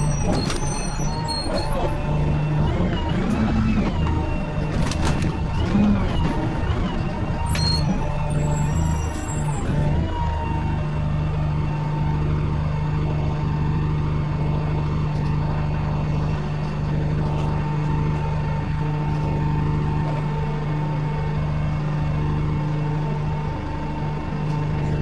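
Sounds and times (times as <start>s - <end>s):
road noise: 0.0s - 21.7s
bus engine running: 0.0s - 25.0s
high engine whine: 0.0s - 25.0s.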